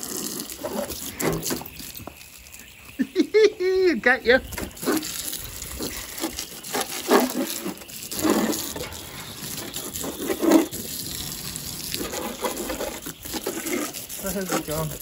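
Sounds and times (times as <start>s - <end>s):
hose spraying water: 0.0s - 15.0s.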